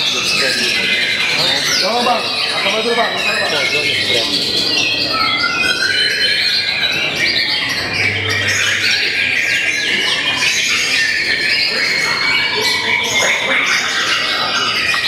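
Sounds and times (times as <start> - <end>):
birds singing rapid whistles and trills: 0.0 - 15.0.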